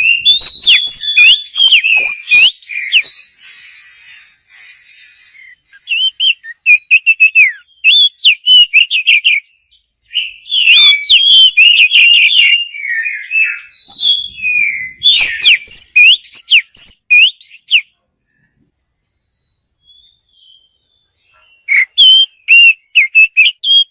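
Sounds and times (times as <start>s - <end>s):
magpie-robin singing: 0.0s - 17.9s, 19.0s - 23.9s.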